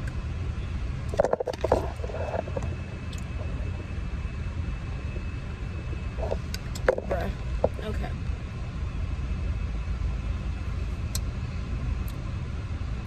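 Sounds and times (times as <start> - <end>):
car engine idling: 0.0 - 13.0
faint high whine: 0.0 - 13.0.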